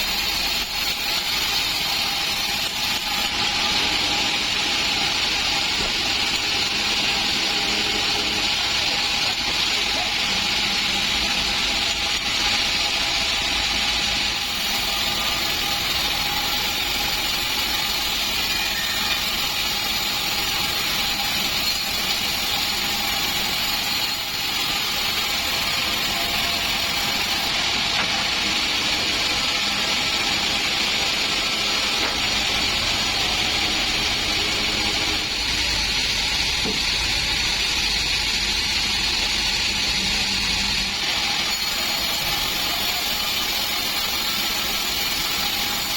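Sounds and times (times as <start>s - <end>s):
band sawmill running: 0.0s - 45.9s.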